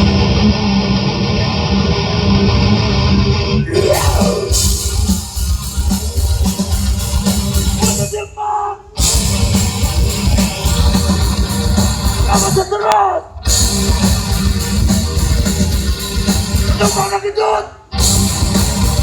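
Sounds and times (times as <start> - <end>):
heavy metal band playing: 0.0 - 8.3, 9.0 - 19.0.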